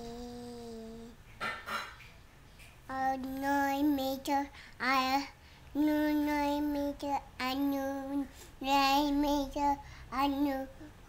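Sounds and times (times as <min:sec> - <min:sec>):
boy singing: 0:00.0 - 0:01.2, 0:02.9 - 0:10.9.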